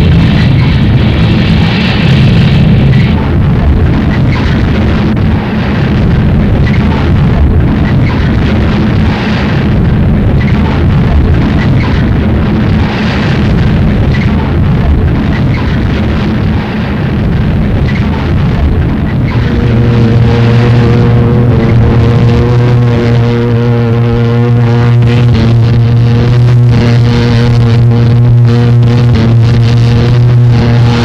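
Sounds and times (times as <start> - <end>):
harsh distorted noise music: 0.0 - 31.0.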